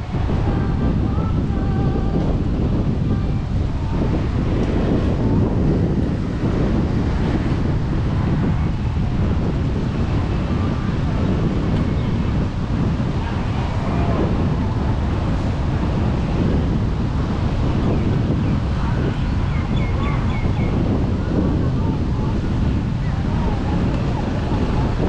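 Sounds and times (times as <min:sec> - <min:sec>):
surf washing on beach: 0:00.0 - 0:25.0
wind buffeting microphone: 0:00.0 - 0:25.0.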